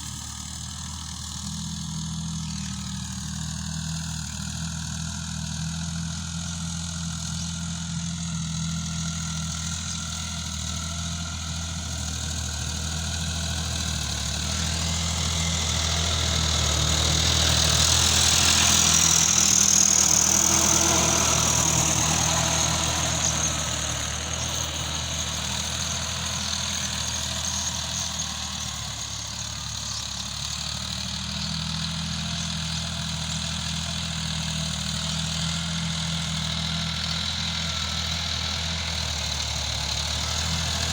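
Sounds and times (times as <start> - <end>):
diesel tractor engine idling: 0.0 - 40.9.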